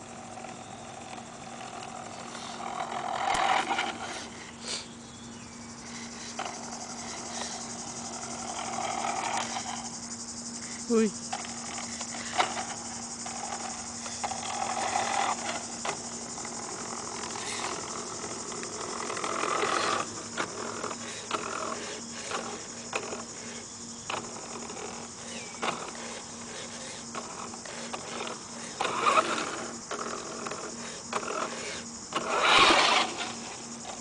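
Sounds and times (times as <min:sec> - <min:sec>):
toy car motor whirring: 0:00.0 - 0:04.9, 0:05.7 - 0:34.0
high-pitched hiss: 0:01.7 - 0:34.0.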